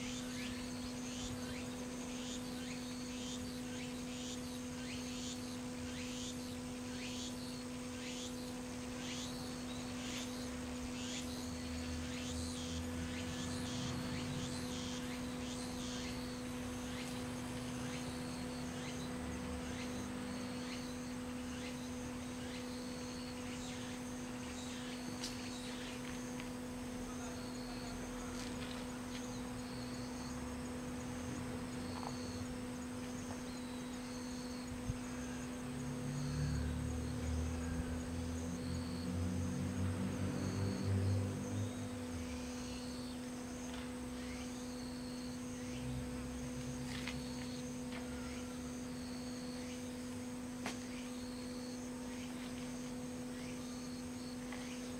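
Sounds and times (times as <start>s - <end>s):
insects chirping: 0.0s - 54.9s
steady low hum: 0.0s - 54.9s.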